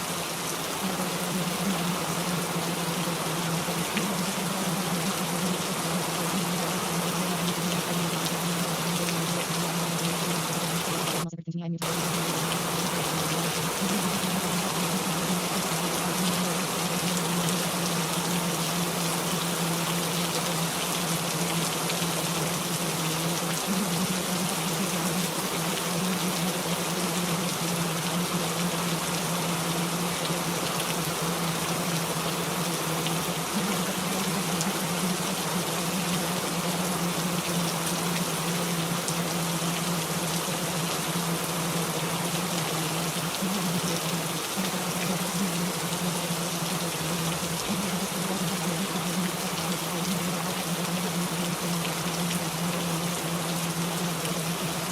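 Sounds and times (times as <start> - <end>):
rainfall hiss: 0.0 - 11.2, 11.8 - 54.9.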